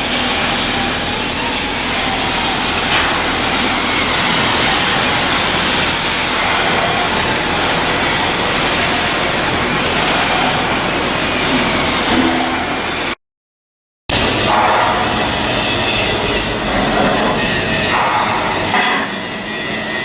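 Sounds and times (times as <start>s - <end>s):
machinery rushing noise: 0.0s - 13.2s, 14.1s - 20.0s.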